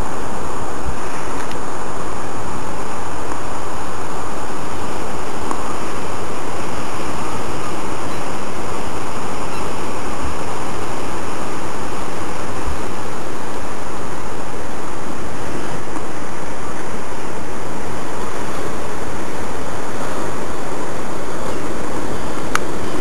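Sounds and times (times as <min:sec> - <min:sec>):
sea surf rushing: 0:00.0 - 0:23.0
wind buffeting microphone: 0:00.0 - 0:23.0.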